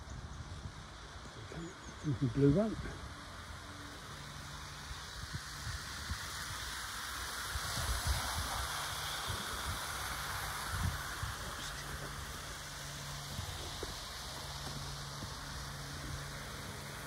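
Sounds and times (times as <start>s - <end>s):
faint motor hum: 0.0s - 17.0s.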